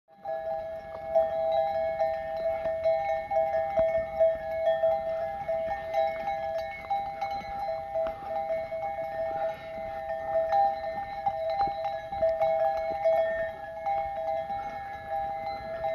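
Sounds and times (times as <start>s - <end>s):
animal bells ringing: 0.1s - 15.9s.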